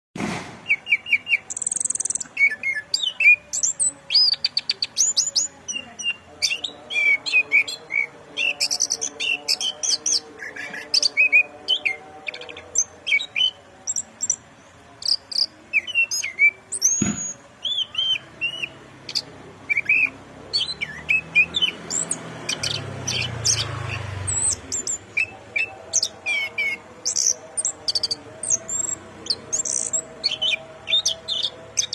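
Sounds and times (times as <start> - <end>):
bird song chirps and trills: 0.6 - 31.9.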